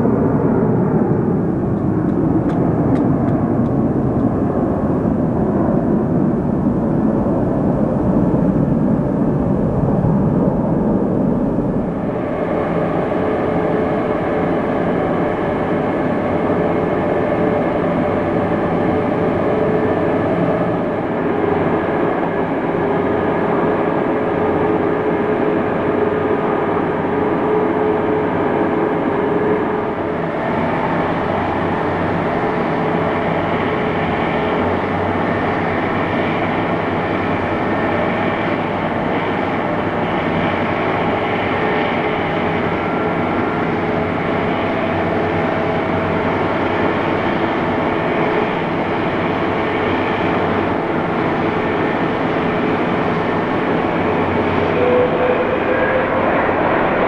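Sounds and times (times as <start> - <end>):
jet engines rumbling: 0.0 - 57.0
snow-clearing vehicles whining: 0.0 - 57.0.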